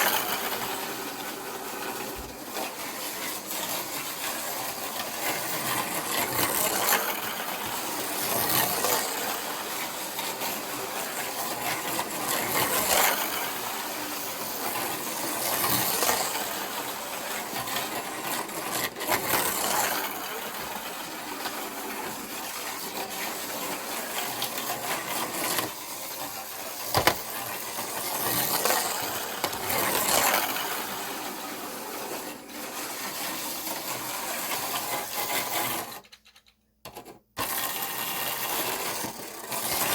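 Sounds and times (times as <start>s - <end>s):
slot cars whirring and rattling: 0.0s - 36.6s, 37.4s - 39.9s.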